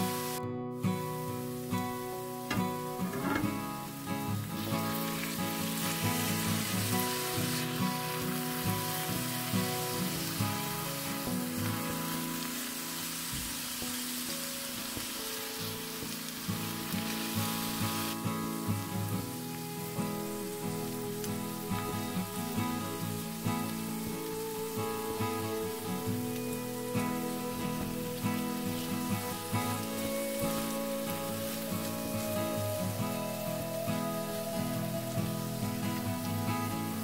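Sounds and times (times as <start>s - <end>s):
quiet background music: 0.0s - 37.0s
vegetables sizzling in oil: 0.0s - 37.0s.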